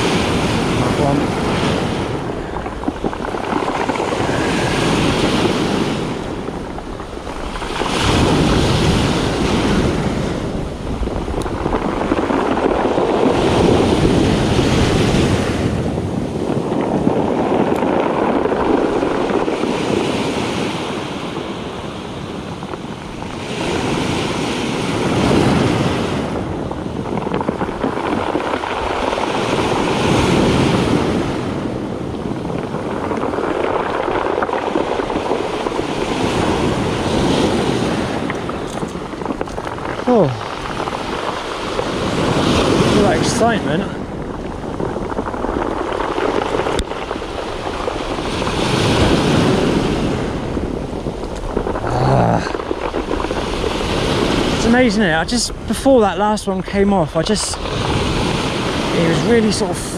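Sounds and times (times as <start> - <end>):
waves on pebble beach: 0.0 - 59.9.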